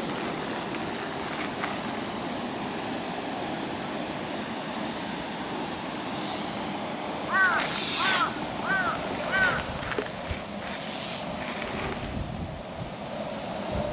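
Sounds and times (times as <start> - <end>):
outdoor rushing hiss: 0.0 - 13.9.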